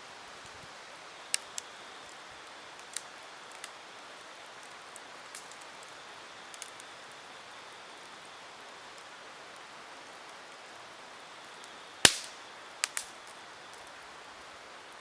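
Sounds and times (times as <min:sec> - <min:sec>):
campfire hissing: 0:00.0 - 0:15.0.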